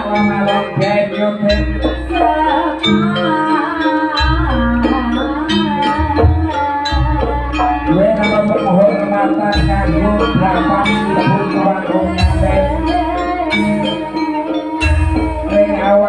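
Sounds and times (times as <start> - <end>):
steady percussion: 0.0 - 16.0
wavering sliding melody: 0.0 - 16.0.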